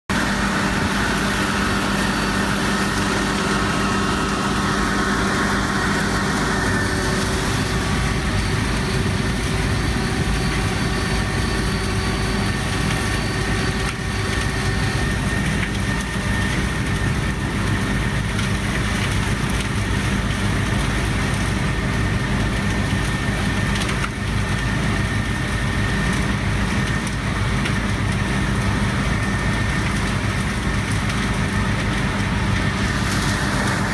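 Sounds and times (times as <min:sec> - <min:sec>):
vacuum truck low drone: 0:00.1 - 0:33.9.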